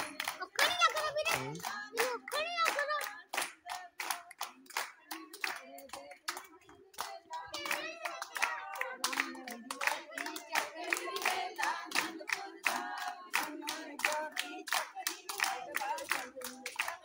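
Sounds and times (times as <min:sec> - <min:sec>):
women clapping in rhythm: 0:00.0 - 0:17.0
women singing folk song: 0:00.0 - 0:17.0.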